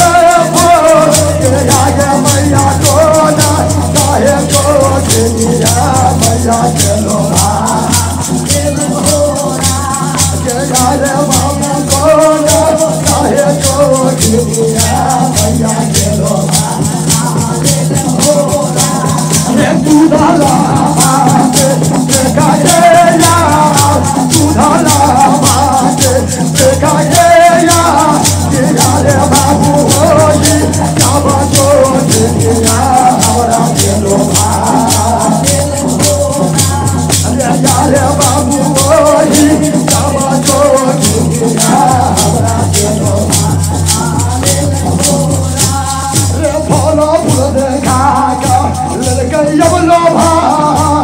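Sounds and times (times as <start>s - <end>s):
person singing folk song: 0.0s - 51.0s
rattling percussion beat: 0.0s - 51.0s.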